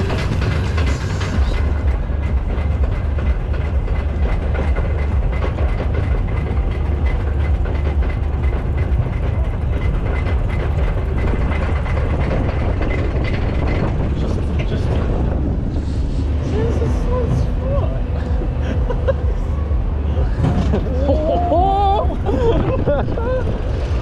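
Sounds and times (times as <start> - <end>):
heavy low rumble: 0.0 - 24.0
lift hill chain rattling: 0.0 - 24.0.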